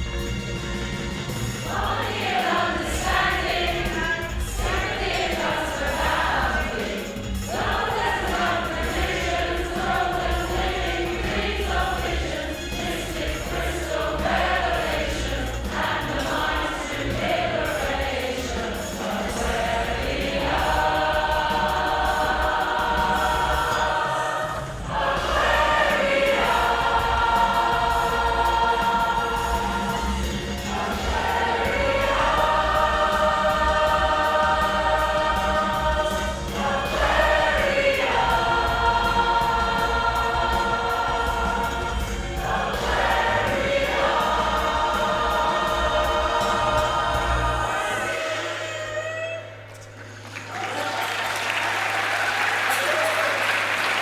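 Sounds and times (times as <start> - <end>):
women's choir singing: 1.6 - 49.6.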